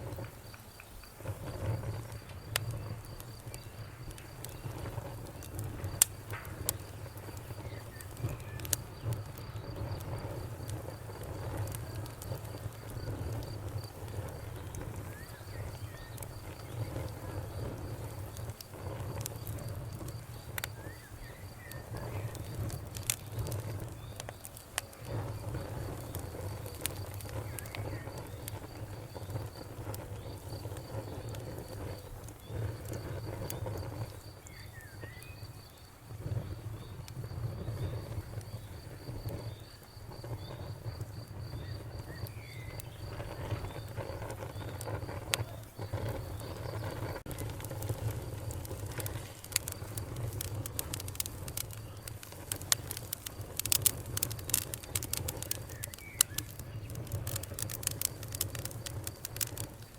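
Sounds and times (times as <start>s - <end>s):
cricket chirping: 0.0s - 59.9s
fire crackling and popping: 0.0s - 59.9s.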